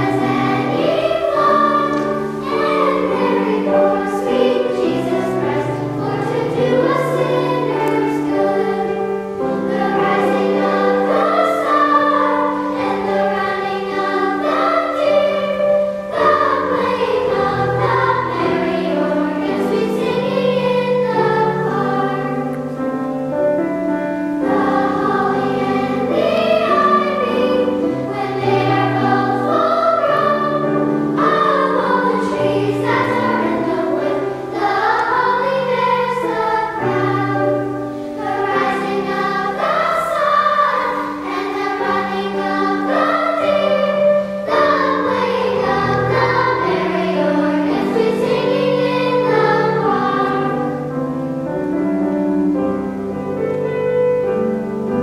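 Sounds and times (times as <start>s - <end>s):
girls' choir singing: 0.0s - 51.5s.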